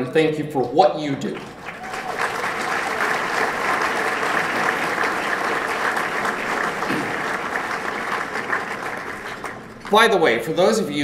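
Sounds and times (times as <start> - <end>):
audience applauding: 1.4 - 10.3.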